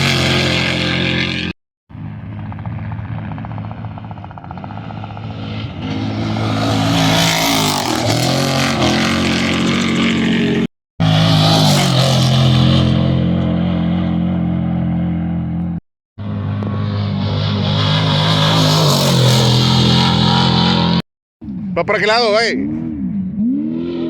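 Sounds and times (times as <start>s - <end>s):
race vehicle engines: 0.0s - 24.0s.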